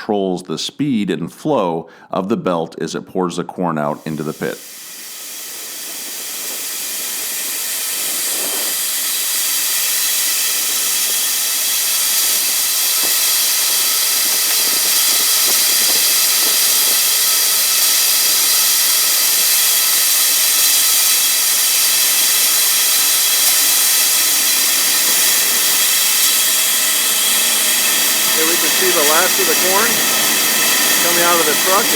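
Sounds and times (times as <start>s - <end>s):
corn pouring into grain pit: 3.9s - 31.9s.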